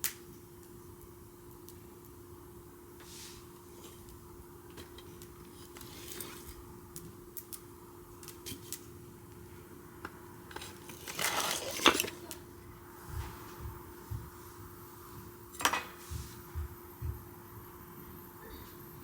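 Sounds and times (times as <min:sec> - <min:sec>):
wood fire crackling: 0:00.0 - 0:18.4
faint hum: 0:00.0 - 0:19.0.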